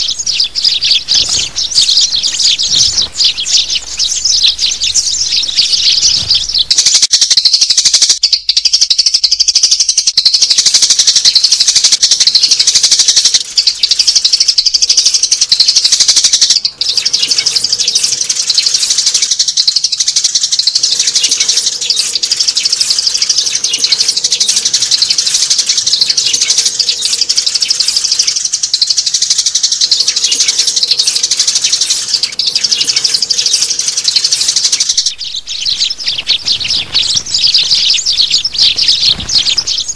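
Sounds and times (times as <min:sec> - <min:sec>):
sparrows chirping rapidly: 0:00.0 - 0:39.9.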